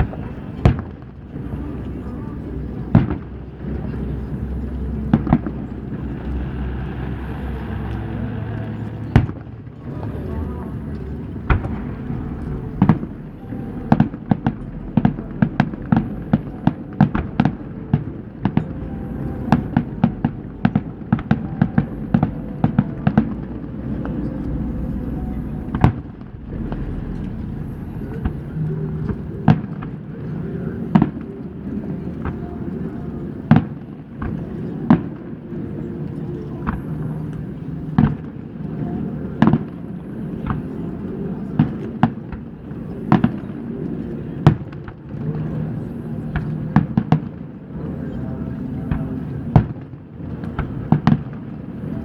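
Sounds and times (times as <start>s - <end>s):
fireworks bursting with sharp bangs: 0.0s - 32.8s, 36.1s - 38.5s, 41.4s - 47.8s, 48.6s - 52.0s
low background din: 0.0s - 52.0s.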